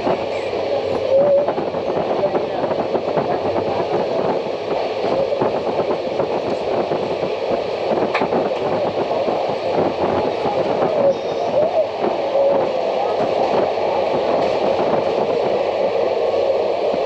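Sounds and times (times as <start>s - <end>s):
train rumbling and rattling: 0.0s - 17.0s.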